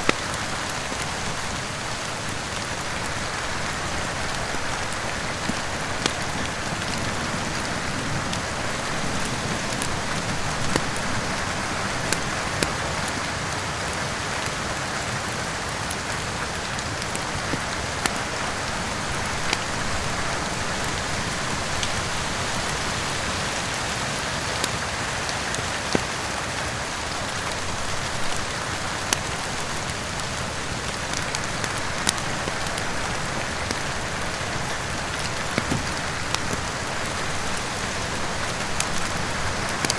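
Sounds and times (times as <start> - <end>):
steady rain falling: 0.0 - 39.9
wood fire popping and crackling: 0.0 - 39.9.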